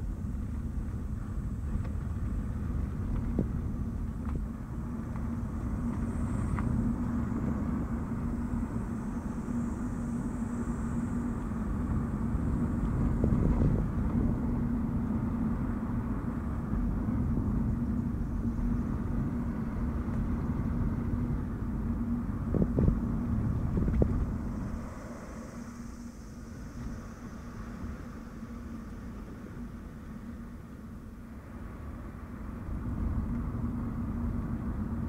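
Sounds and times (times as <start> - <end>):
car road rumble: 0.0 - 35.0.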